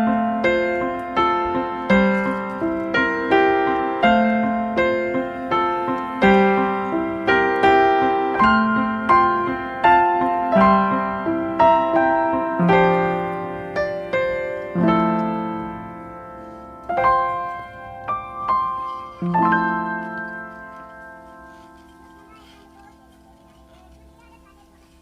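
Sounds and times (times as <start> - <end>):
slow piano melody: 0.0 - 25.0.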